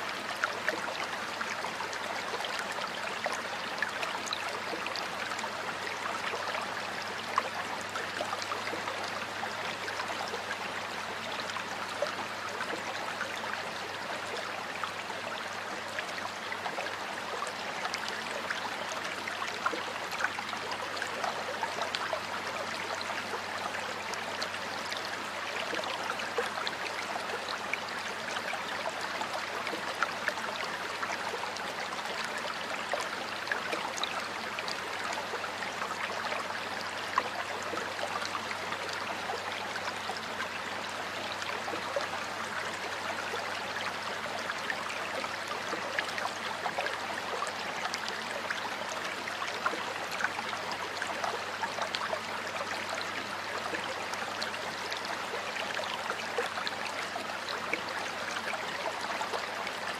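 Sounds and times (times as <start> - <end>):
stream of water burbling: 0.0 - 59.9.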